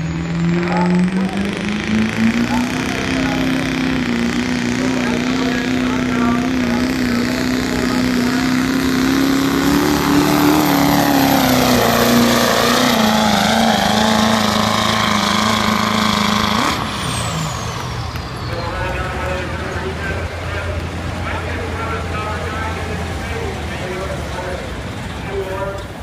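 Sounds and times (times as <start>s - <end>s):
diesel pickup engine at full throttle: 0.0s - 26.0s.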